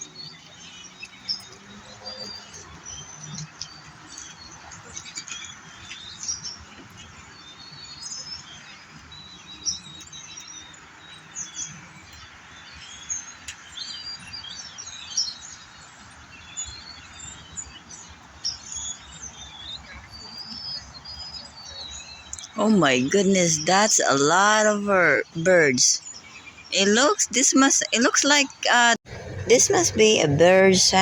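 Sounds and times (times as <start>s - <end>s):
flock of birds chirping: 0.0s - 31.0s.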